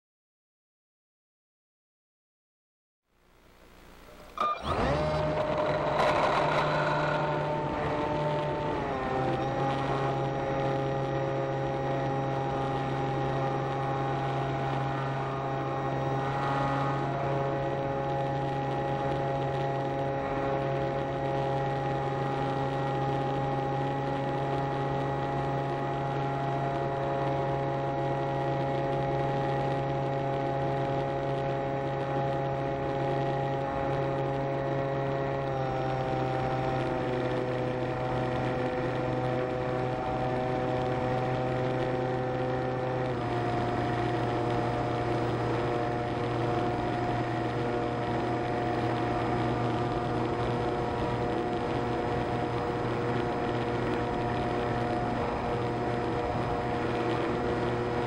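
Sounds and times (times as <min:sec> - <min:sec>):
model airplane motor droning: 0:03.8 - 0:58.0.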